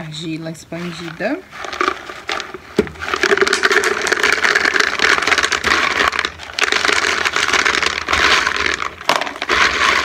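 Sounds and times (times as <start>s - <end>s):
clay pebbles rattling into planter: 0.7s - 10.0s.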